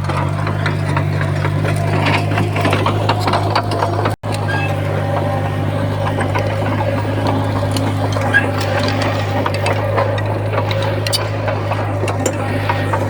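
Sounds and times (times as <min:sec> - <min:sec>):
bulldozer diesel engine running: 0:00.0 - 0:13.0
tracks clanking and rattling: 0:00.0 - 0:13.0.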